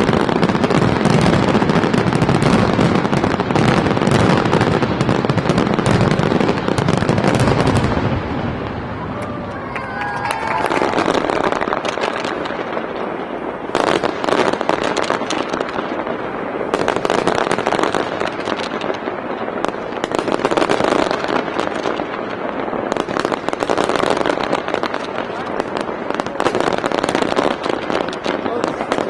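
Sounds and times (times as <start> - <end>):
fireworks crackling: 0.0 - 29.0
rumble of firework bursts: 0.0 - 29.0.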